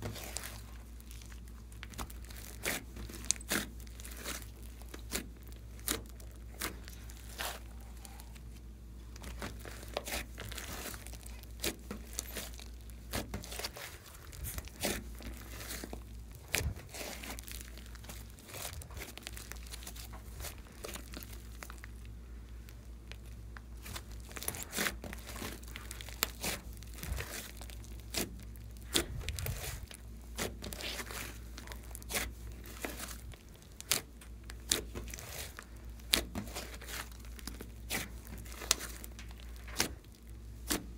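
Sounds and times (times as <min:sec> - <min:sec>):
slime crackling and popping: 0:00.0 - 0:40.9.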